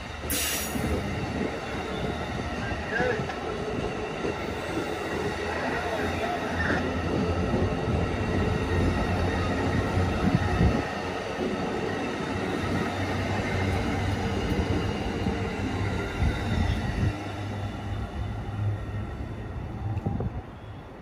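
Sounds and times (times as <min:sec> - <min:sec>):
train wheels rumbling on rail: 0:00.0 - 0:20.6.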